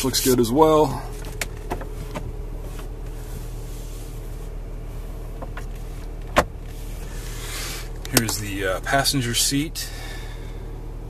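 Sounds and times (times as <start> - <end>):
hand tapping and rubbing dashboard: 0.0 - 9.1
car cabin hum: 0.0 - 11.0.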